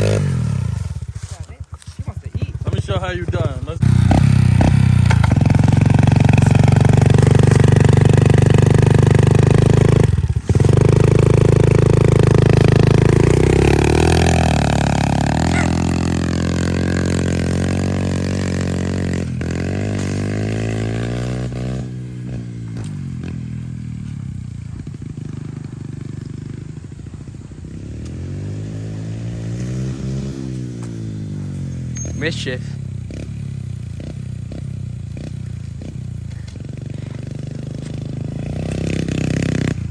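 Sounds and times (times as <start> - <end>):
pit bike engine revving: 0.0 - 1.3, 2.1 - 39.9.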